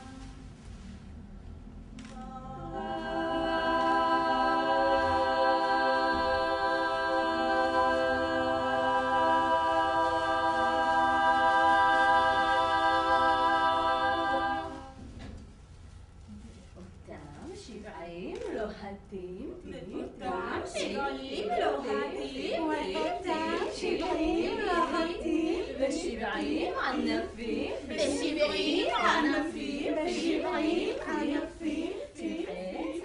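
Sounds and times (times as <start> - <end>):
women singing a long note: 2.0 - 15.0, 19.2 - 33.0.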